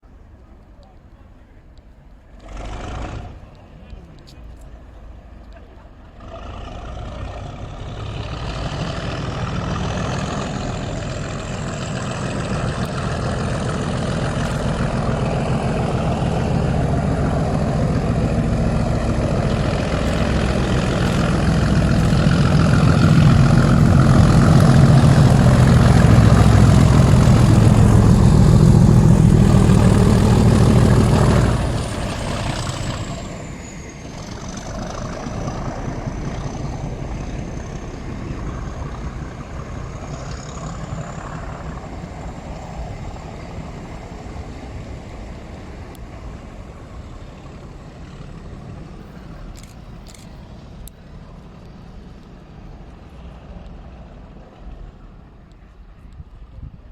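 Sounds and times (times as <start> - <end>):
diesel locomotive engine working: 0.0 - 56.9.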